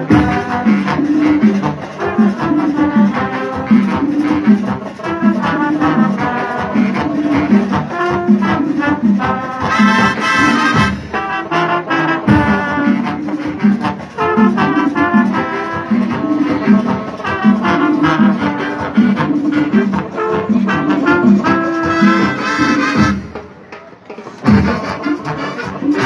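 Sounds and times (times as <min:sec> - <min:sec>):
drums keeping a steady beat: 0:00.0 - 0:26.0
marching band brass: 0:00.0 - 0:26.0.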